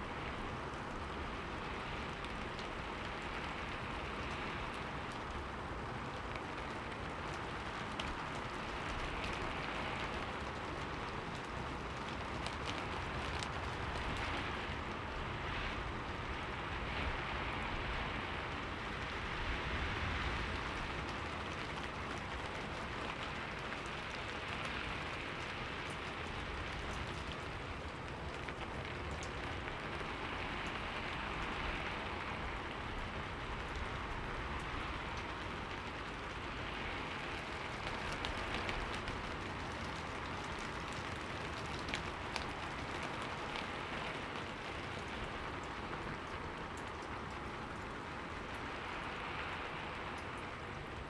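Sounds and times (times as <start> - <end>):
raindrops ticking on window: 0.0 - 51.0
steady rain falling: 0.0 - 51.0.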